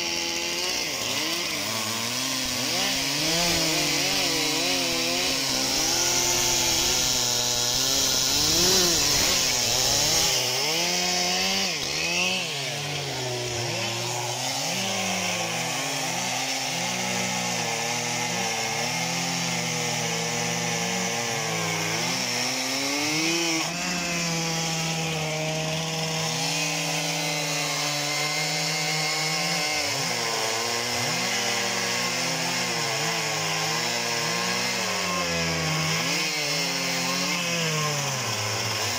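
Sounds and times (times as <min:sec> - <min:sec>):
chainsaw cutting logs: 0:00.0 - 0:38.9.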